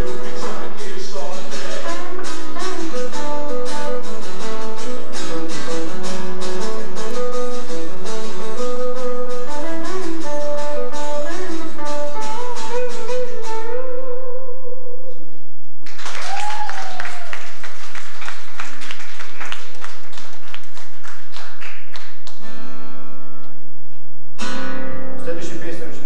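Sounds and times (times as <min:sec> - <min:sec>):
acoustic guitar strumming: 0:00.0 - 0:15.4, 0:17.4 - 0:26.0.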